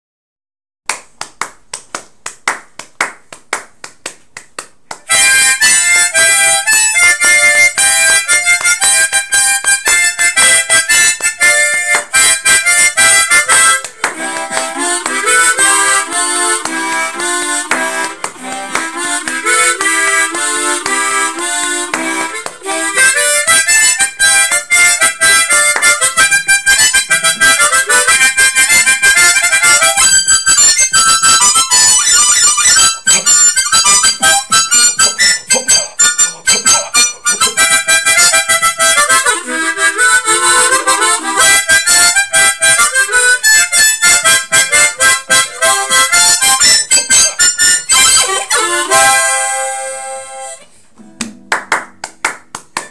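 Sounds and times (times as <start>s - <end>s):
light taps keeping time: 1.7s - 48.7s
tremolo harmonica tune: 5.0s - 51.8s.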